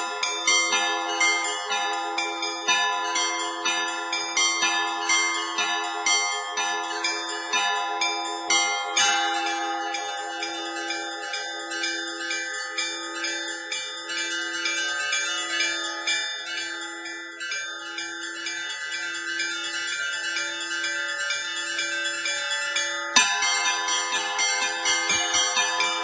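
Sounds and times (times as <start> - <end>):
low bell ringing steadily: 0.0 - 26.0
small high church bells: 0.0 - 26.0.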